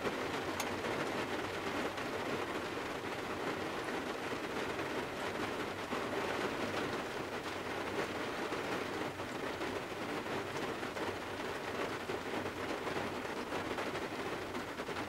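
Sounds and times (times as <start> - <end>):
rain on car roof and windows: 0.0 - 15.0.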